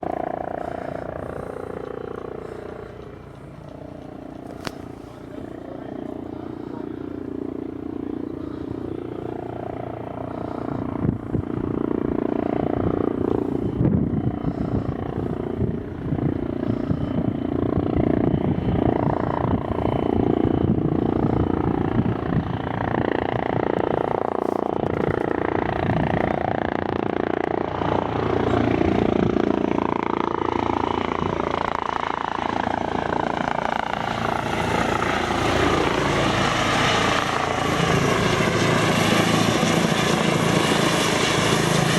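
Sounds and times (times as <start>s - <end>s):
helicopter rotor beat: 0.0s - 41.9s
turbine engine whine: 0.0s - 41.9s.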